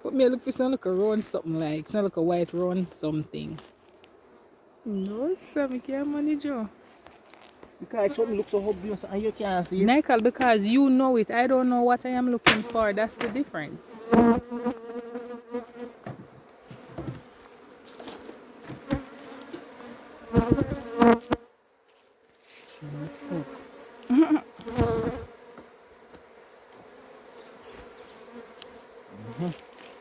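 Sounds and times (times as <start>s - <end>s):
honey bees buzzing: 0.0s - 30.0s.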